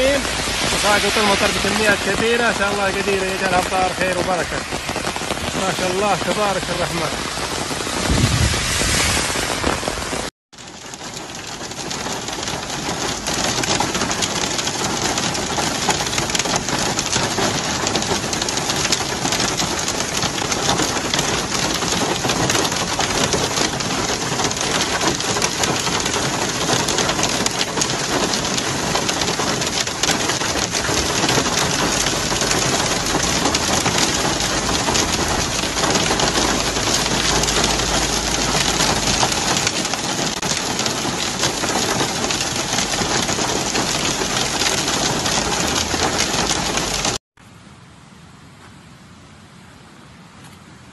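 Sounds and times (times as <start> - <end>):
heavy rain and hail pelting: 0.0 - 47.2.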